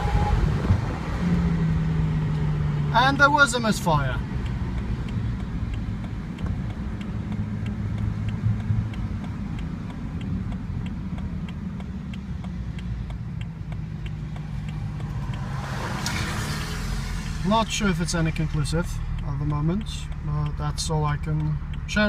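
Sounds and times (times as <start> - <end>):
car engine and road noise drone: 0.0 - 22.0
faint regular ticking: 1.3 - 22.0.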